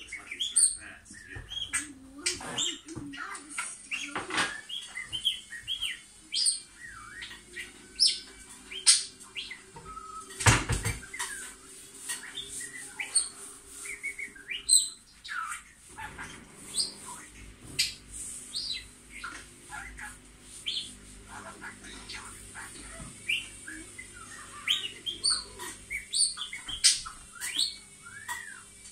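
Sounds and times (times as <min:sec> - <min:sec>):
budgie chirping and warbling: 0:00.0 - 0:28.9.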